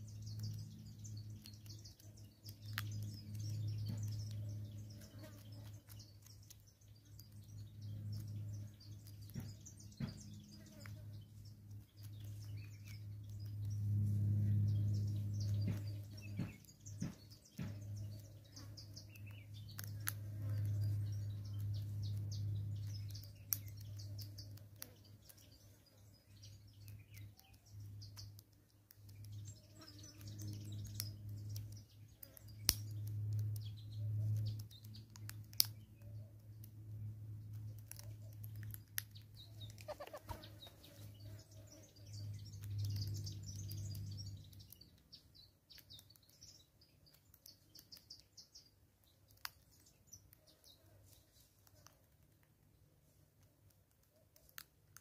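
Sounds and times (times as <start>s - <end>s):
low droning hum: 0.0s - 47.2s
small birds chirping: 0.0s - 55.0s.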